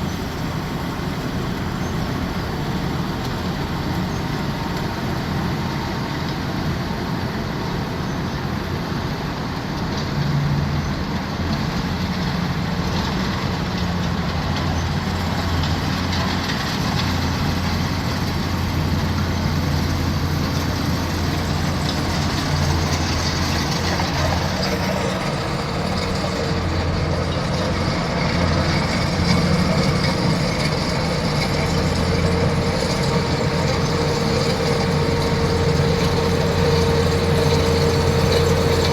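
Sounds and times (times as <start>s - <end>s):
heavy machine engine humming: 0.0s - 38.9s.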